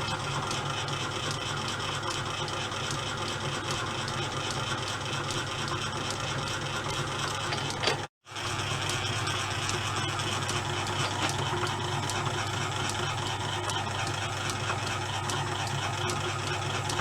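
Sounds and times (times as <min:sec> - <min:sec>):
lathe mechanical clatter: 0:00.0 - 0:17.0.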